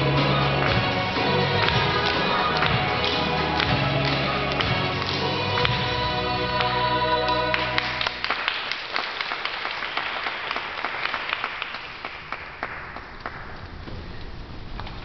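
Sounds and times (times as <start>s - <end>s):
hands clapping: 0.0s - 13.8s.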